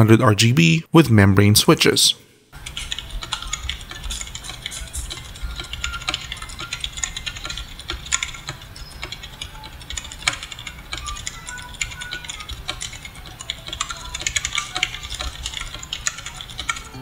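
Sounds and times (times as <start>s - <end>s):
keyboard typing: 2.6s - 17.0s.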